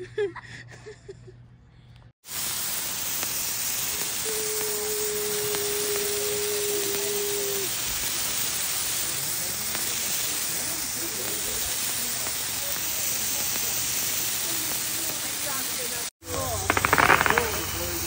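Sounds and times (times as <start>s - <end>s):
sparklers sizzling hiss: 2.2s - 18.0s.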